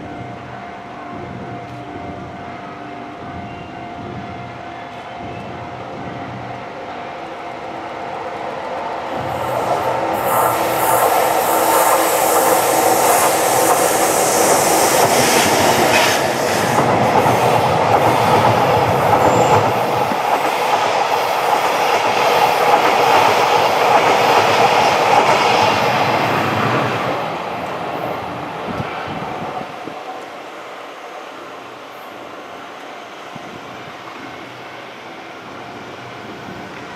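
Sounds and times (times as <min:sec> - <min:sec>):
train wheels running over rails: 0:03.2 - 0:36.9.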